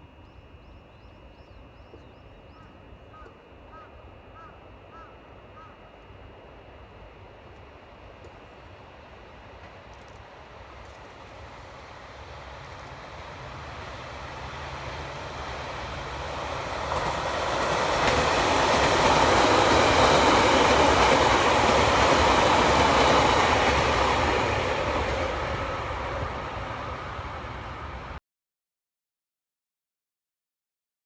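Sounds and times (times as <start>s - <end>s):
electric train passing: 0.0s - 28.2s.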